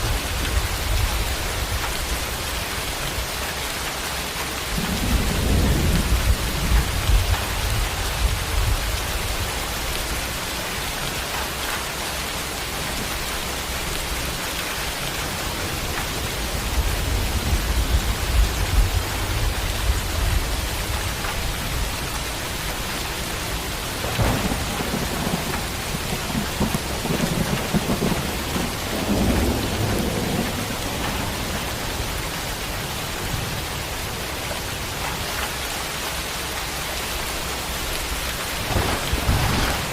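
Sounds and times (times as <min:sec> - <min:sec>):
heavy rain hissing: 0:00.0 - 0:39.9
thunder rumbling: 0:04.5 - 0:11.6, 0:12.5 - 0:35.3, 0:37.6 - 0:39.9.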